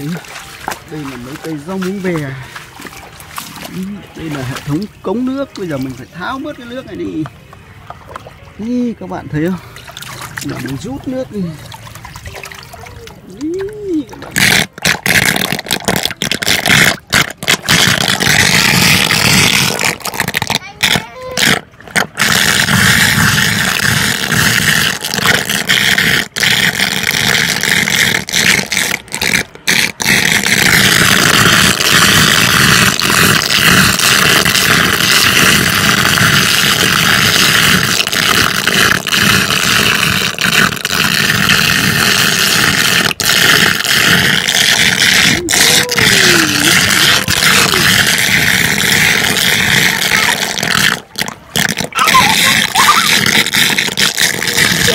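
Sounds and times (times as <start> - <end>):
water gurgling down a drain: 0.0 - 54.9.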